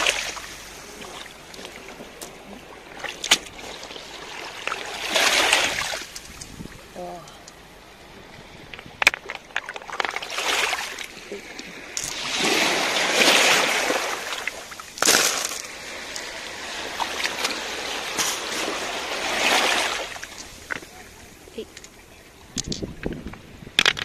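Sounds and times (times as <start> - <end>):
water splashing over pebbles: 0.0 - 24.0.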